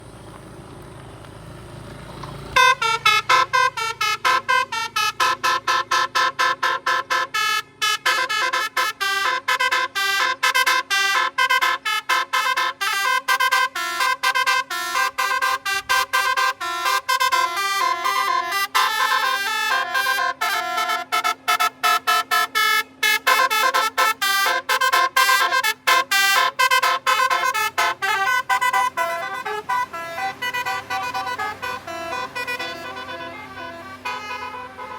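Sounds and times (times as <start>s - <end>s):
multi-tone bus horn tune: 2.5s - 34.9s.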